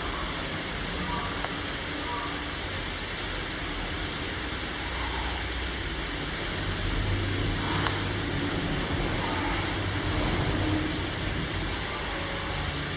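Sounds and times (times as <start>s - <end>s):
steady hiss: 0.0s - 12.9s.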